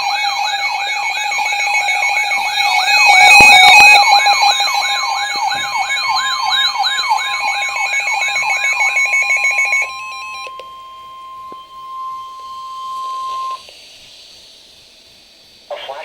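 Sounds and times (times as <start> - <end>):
steady warning alarm tone: 0.0 - 13.6
sweeping electronic alert siren: 0.0 - 13.6.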